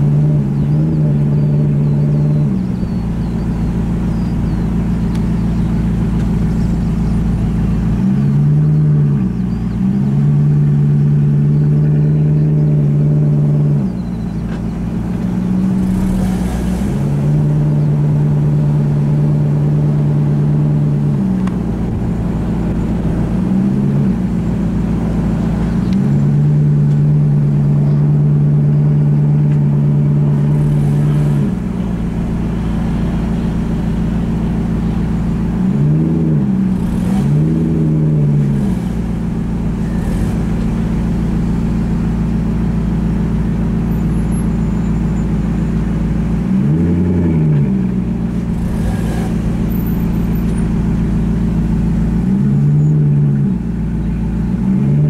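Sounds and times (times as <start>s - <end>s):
car engine running at low speed: 0.0s - 55.0s
engine throttle blips: 0.0s - 55.0s.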